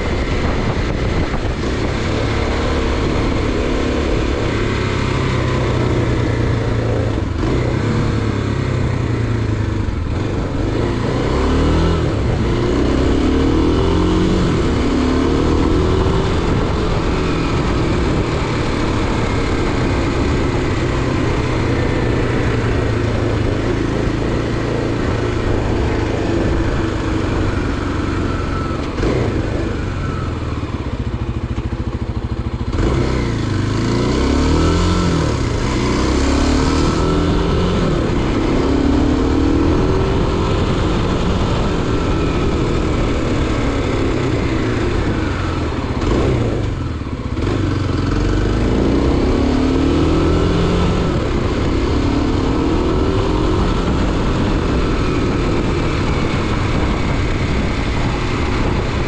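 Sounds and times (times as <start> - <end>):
road and wind noise: 0.0 - 59.0
vehicle engine running: 0.0 - 59.0.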